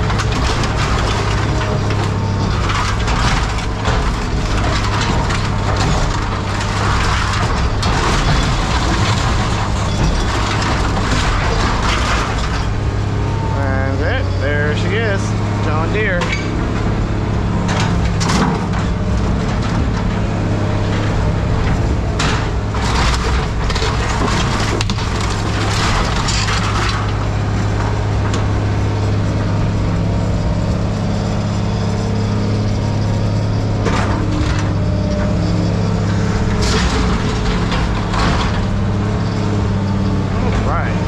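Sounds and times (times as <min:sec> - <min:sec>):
heavy machine engine running: 0:00.0 - 0:41.0
scrap metal crunching and cracking: 0:00.0 - 0:41.0.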